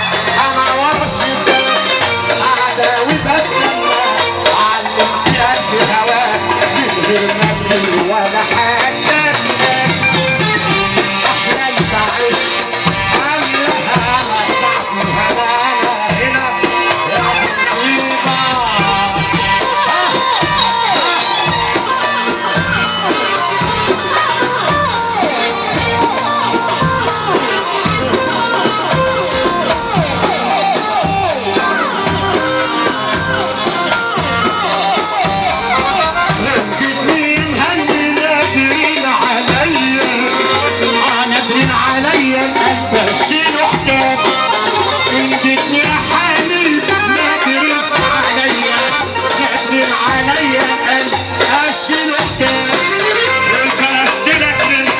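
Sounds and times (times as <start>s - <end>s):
fast percussion beat: 0.0s - 54.9s
jingling tambourine: 0.0s - 54.9s
sliding lead melody: 0.0s - 54.9s.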